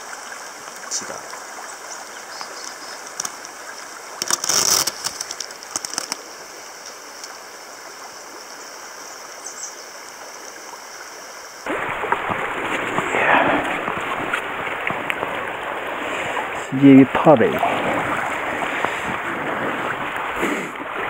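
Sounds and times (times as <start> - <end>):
river water running: 0.0 - 21.0.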